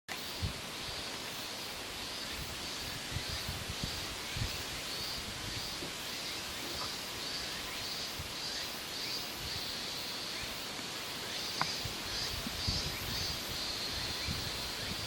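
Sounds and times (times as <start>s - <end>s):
rustling hiss: 0.1s - 15.0s.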